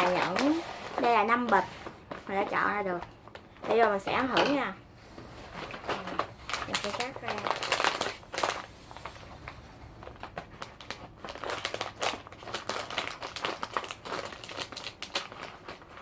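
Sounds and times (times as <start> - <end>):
plastic snack bag crinkling: 0.0 - 4.7, 5.4 - 16.0.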